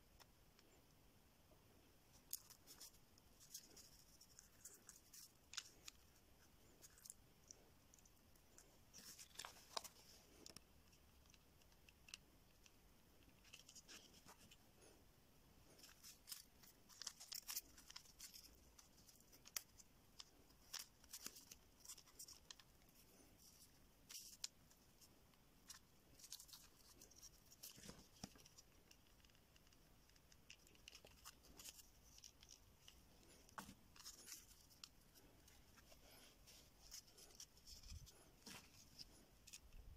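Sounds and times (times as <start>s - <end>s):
small parts clicking and rustling: 2.1s - 15.0s, 15.7s - 39.9s.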